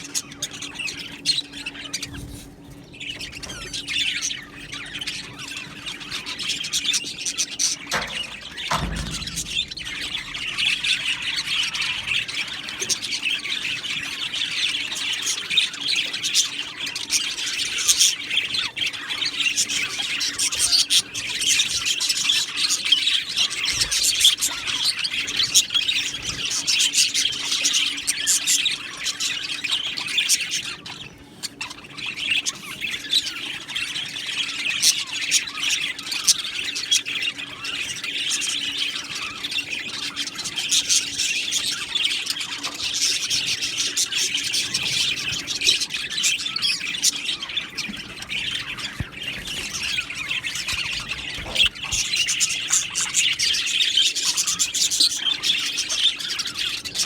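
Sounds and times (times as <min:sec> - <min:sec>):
budgerigars chattering and squawking: 0:00.0 - 0:57.0.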